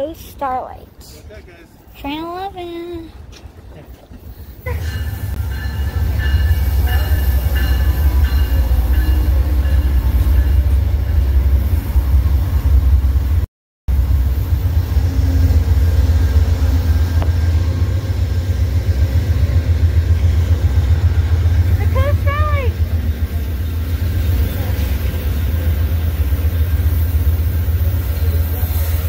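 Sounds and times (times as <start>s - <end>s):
diesel locomotive engine rumbling: 0.0s - 29.0s.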